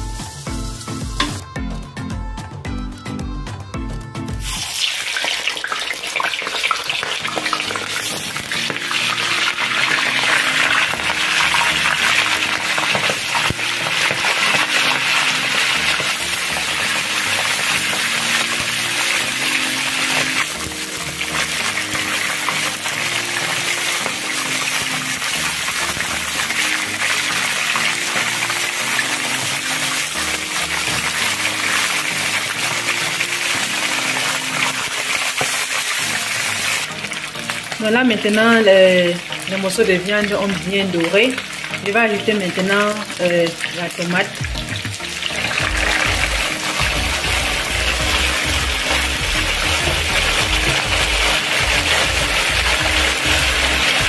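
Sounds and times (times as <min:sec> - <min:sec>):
meat sizzling in hot oil: 0:00.0 - 0:01.4, 0:04.4 - 0:54.0
background music: 0:00.0 - 0:54.0.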